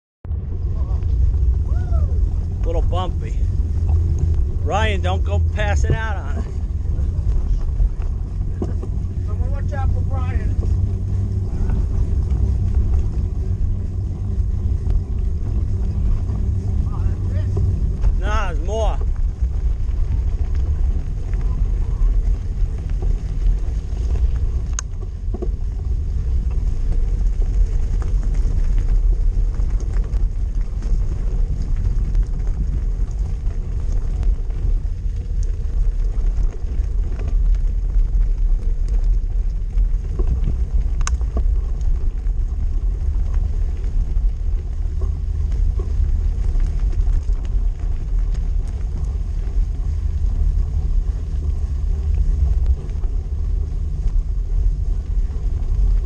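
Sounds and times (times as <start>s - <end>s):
wind buffeting microphone: 0.2s - 56.0s
tyres rolling over gravel: 0.3s - 56.0s.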